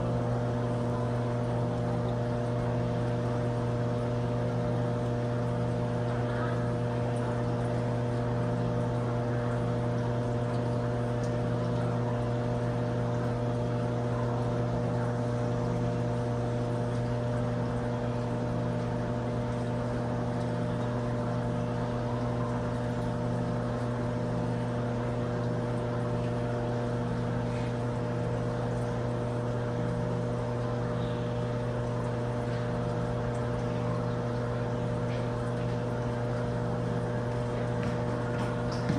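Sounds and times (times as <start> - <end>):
aquarium pump humming: 0.0 - 38.9
faint moving water: 0.0 - 38.9.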